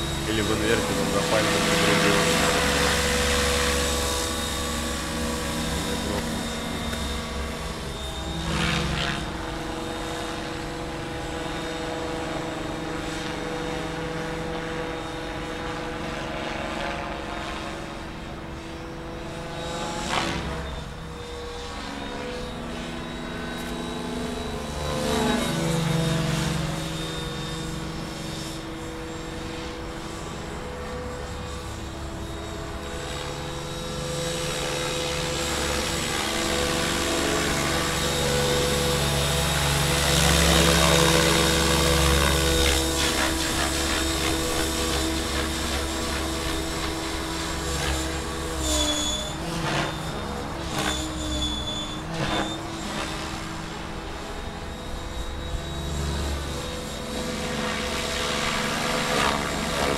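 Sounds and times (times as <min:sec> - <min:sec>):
model helicopter motor and rotor hum: 0:00.0 - 0:59.9.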